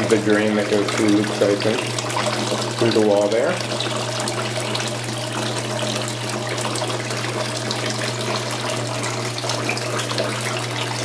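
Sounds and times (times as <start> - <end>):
water pump humming: 0.0 - 11.0
water splashing from pipes: 0.0 - 11.0.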